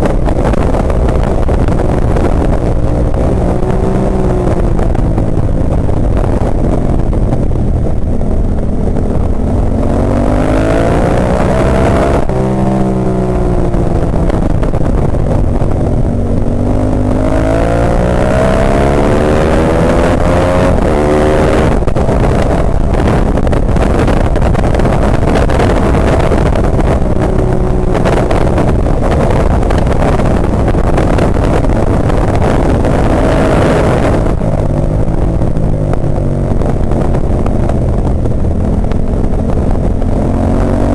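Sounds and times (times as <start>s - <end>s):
heavy wind rush: 0.0s - 40.9s
motorcycle engine revving: 0.0s - 40.9s.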